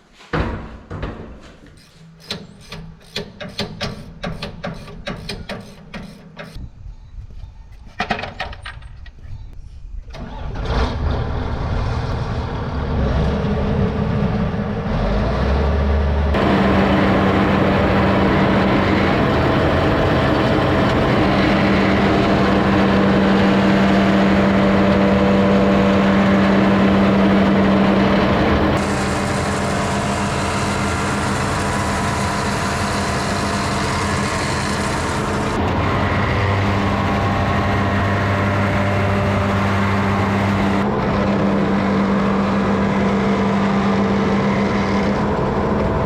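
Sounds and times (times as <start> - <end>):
heavy tractor engine droning: 1.7 - 6.6, 10.1 - 46.0.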